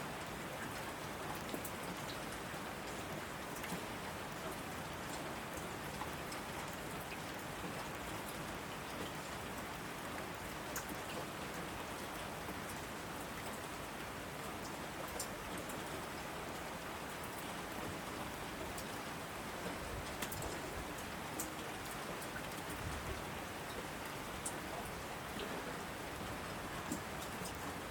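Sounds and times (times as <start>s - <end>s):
heavy rain on asphalt: 0.0s - 27.9s.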